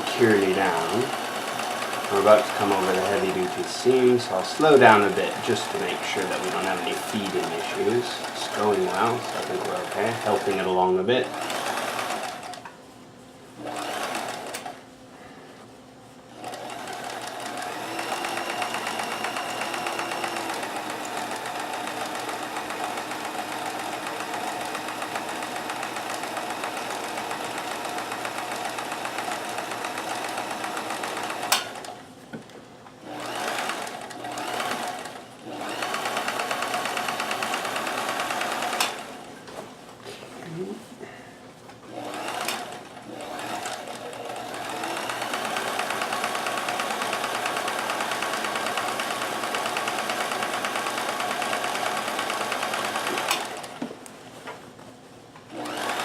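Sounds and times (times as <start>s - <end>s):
sewing machine stitching: 0.0s - 12.6s, 13.6s - 14.8s, 16.4s - 32.0s, 33.0s - 39.3s, 41.9s - 53.8s, 55.5s - 56.0s.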